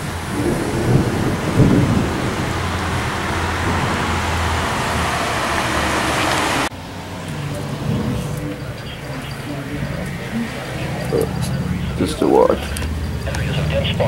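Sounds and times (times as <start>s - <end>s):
low thunder rumble: 0.0s - 14.0s
rain pouring: 0.0s - 14.0s.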